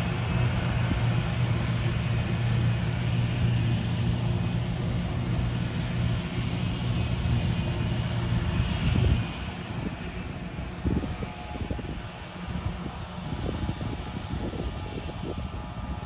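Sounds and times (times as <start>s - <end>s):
harvester engine drone: 0.0s - 16.0s.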